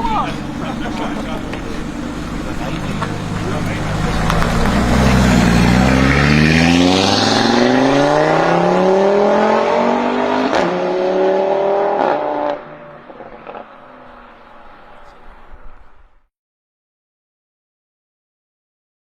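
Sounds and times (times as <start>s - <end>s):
exhaust cracks: 0.0s - 11.1s, 12.0s - 16.2s
car engine accelerating: 0.0s - 16.3s.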